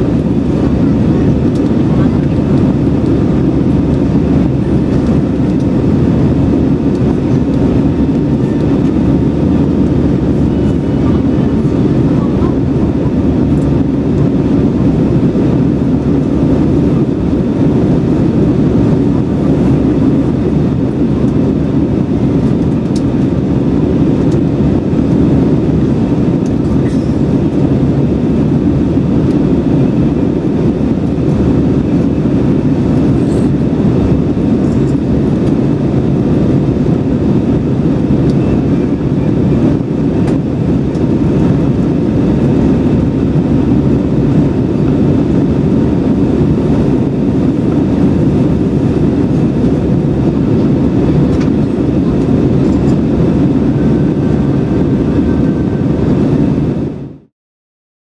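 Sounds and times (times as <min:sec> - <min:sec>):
aircraft cabin engine rush: 0:00.0 - 0:57.3.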